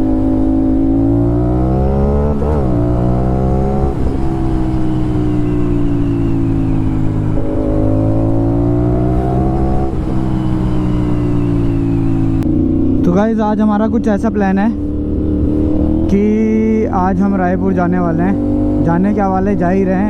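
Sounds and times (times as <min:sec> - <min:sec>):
motorcycle engine upshifting: 0:00.0 - 0:13.2, 0:14.1 - 0:19.8.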